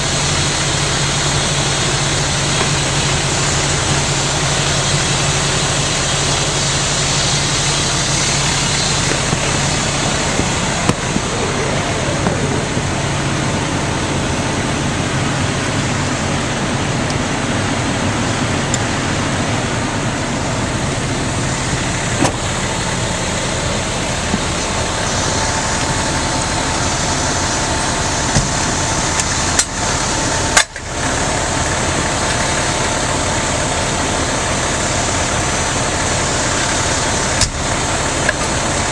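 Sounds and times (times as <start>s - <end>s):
fire engine engine running: 0.0s - 38.9s
thin steady whine: 0.0s - 38.9s.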